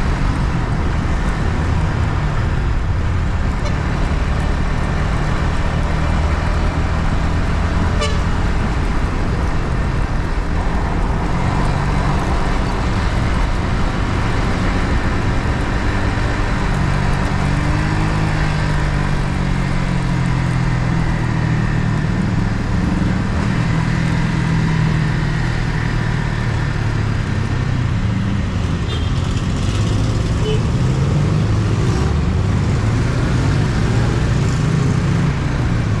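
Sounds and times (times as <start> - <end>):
motorcycle engine while riding: 0.0 - 36.0
wind and road noise: 0.0 - 36.0.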